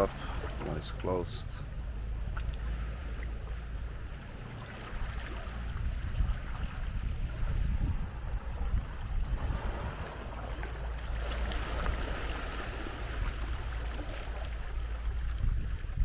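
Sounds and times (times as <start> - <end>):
small waves washing on sand: 0.0 - 16.0
wind buffeting microphone: 1.5 - 16.0.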